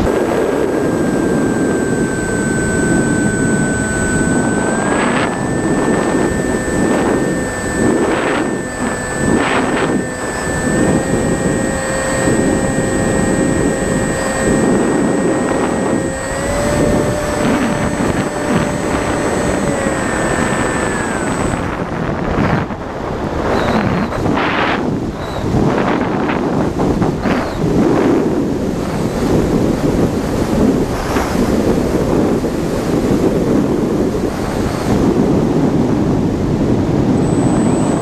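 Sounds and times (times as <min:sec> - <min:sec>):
electric motor whine: 0:00.0 - 0:38.0
gusty wind: 0:00.0 - 0:38.0.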